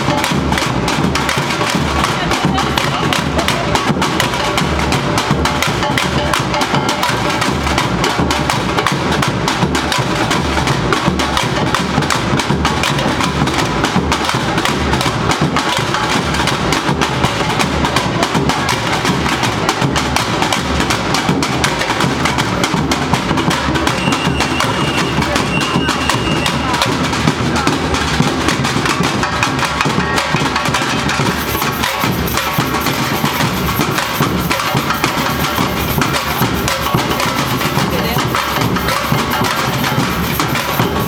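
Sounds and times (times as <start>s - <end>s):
samba drum corps playing: 0.0s - 41.0s.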